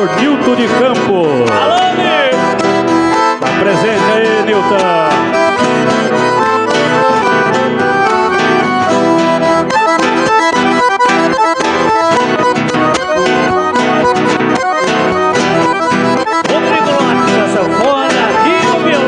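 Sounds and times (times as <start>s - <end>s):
accordion melody: 0.0s - 19.0s
acoustic guitar accompaniment: 0.0s - 19.0s.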